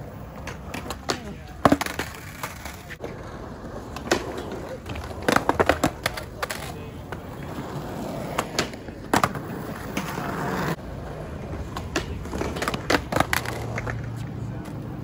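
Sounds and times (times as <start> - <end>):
skateboard clacking: 0.0 - 15.0
skateboard wheels rolling on concrete: 0.0 - 15.0
skateboard scraping along metal rail: 0.3 - 15.0.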